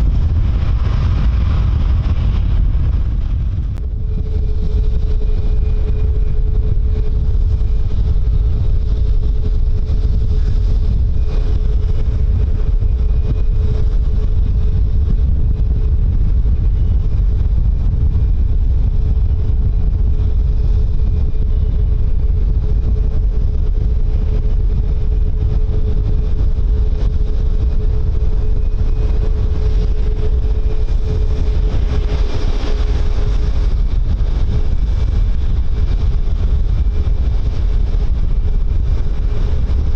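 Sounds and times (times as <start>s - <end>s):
aircraft engines humming: 0.0s - 39.9s
wind buffeting microphone: 0.0s - 39.9s.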